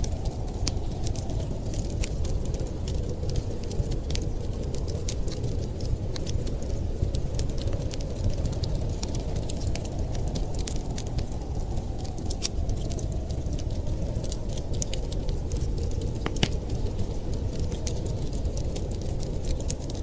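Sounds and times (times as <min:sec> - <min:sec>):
low fire rumble: 0:00.0 - 0:20.0
wood fire pops and snaps: 0:00.0 - 0:20.0.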